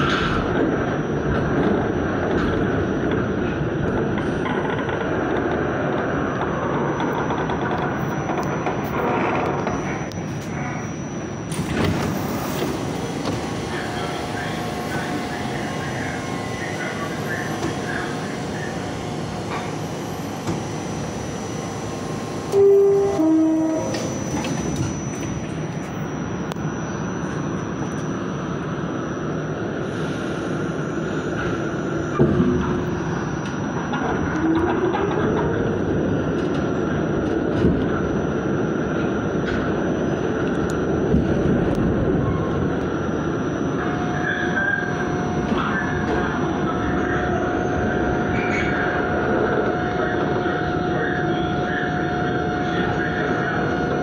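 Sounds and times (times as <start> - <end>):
high steady whine: 0.0 - 54.0
subway train rumble: 0.0 - 54.0.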